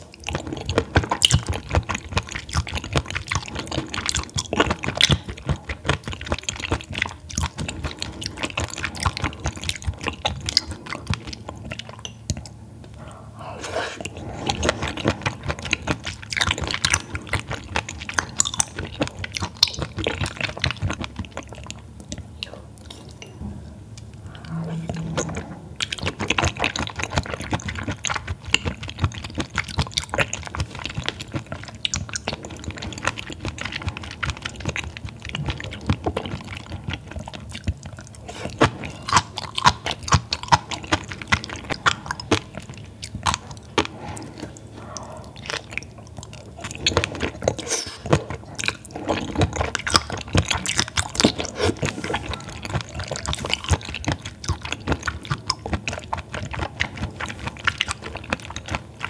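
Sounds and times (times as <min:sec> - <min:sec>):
chewing with sticky mouth clicks: 0:00.0 - 0:13.1, 0:14.0 - 0:23.4, 0:24.0 - 0:59.0.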